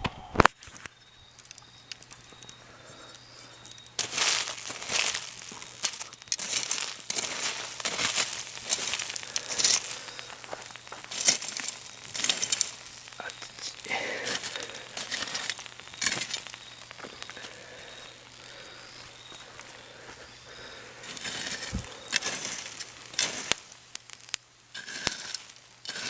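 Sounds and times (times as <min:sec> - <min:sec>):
bonfire crackling: 0:00.1 - 0:26.0.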